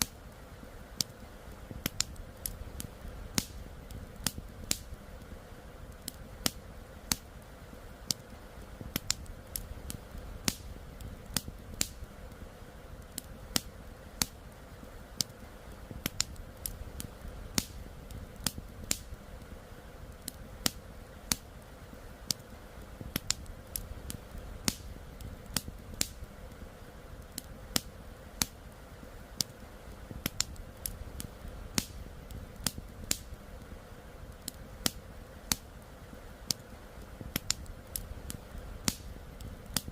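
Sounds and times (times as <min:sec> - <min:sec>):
campfire wood popping: 0:00.0 - 0:39.9.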